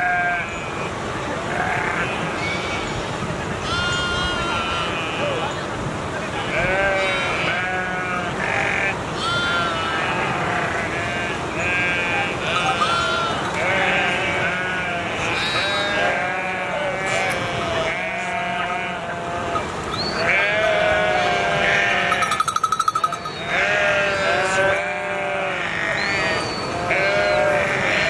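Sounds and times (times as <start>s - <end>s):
sheep bleating: 0.0s - 0.6s, 1.5s - 3.0s, 3.6s - 5.4s, 6.5s - 28.0s.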